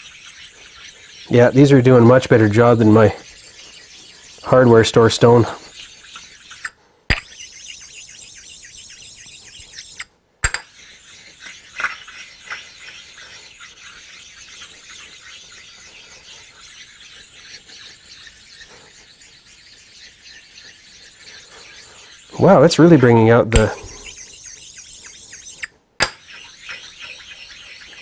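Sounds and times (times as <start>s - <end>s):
stones scraping metal table: 0.0s - 28.0s.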